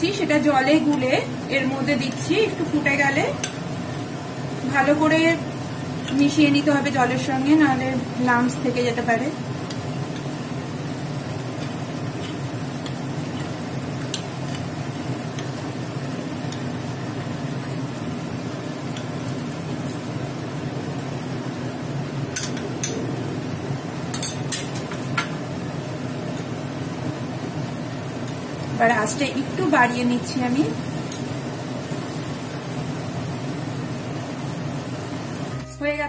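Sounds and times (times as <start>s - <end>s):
curry sizzling in pan: 0.0s - 35.7s.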